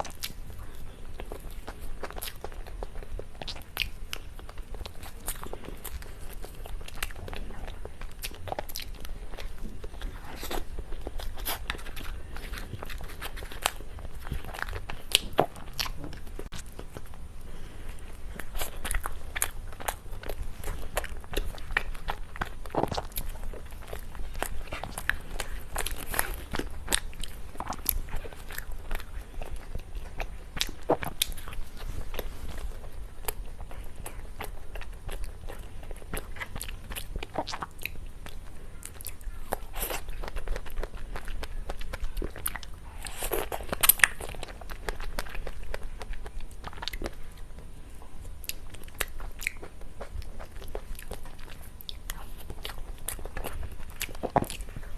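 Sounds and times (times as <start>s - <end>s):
chewing cake with mouth clicks: 0.0s - 54.9s.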